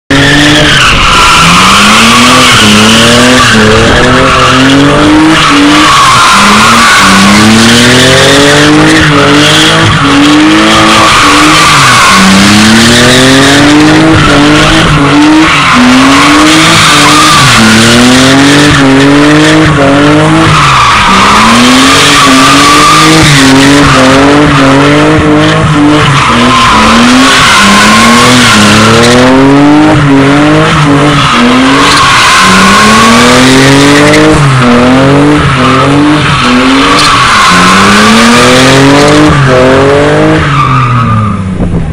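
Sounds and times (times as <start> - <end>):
car engine revving: 0.0 - 41.9
tyre squeal: 0.1 - 18.8, 20.2 - 29.5, 30.4 - 34.4, 35.1 - 41.4.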